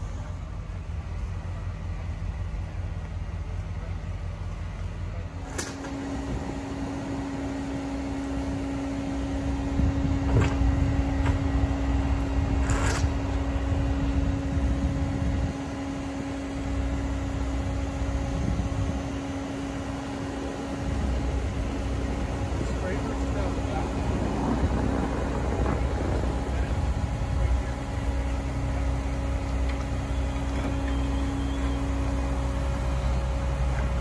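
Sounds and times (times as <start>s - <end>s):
fire truck engine humming: 0.0s - 34.0s.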